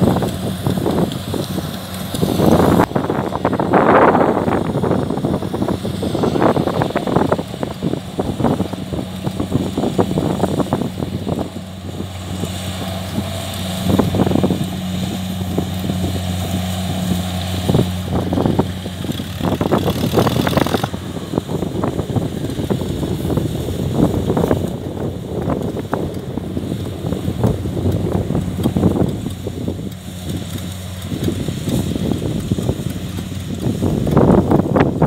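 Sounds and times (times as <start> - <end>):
diesel engine humming: 0.0 - 35.0
wind buffeting microphone: 0.0 - 35.0.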